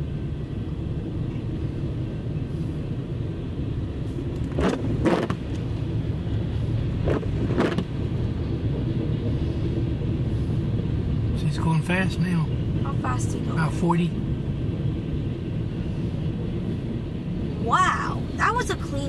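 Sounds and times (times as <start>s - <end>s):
road rumble inside car: 0.0s - 19.0s.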